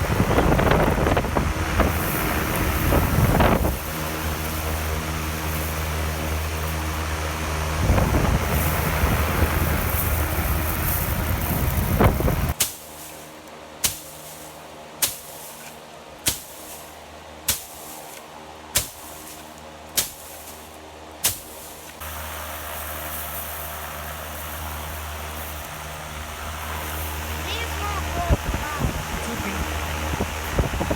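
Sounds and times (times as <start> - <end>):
fan machine humming: 0.0 - 30.9.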